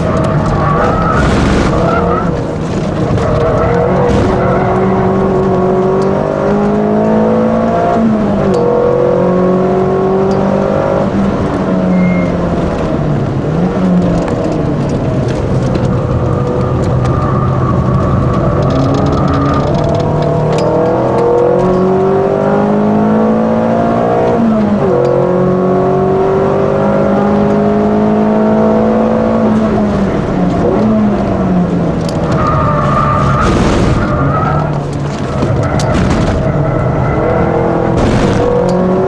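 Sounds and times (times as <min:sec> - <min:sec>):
car engine revving under load: 0:00.0 - 0:39.0.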